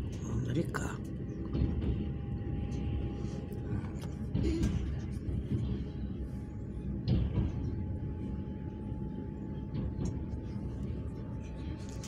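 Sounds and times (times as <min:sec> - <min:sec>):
faint steady whine: 0:00.0 - 0:12.0
train wheels rumbling on track: 0:00.0 - 0:12.0.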